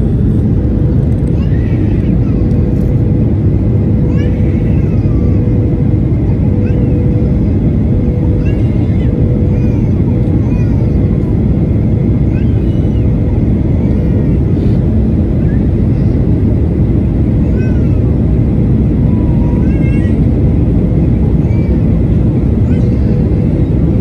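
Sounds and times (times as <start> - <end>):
airliner cabin roar: 0.0 - 24.0.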